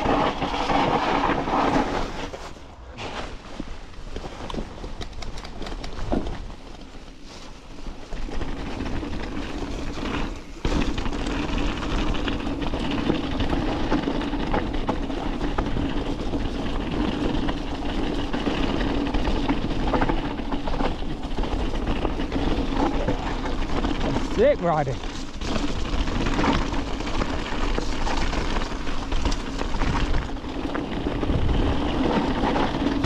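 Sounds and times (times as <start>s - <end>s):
mountain bike rattling on rocks: 0.0s - 2.7s, 3.5s - 33.0s.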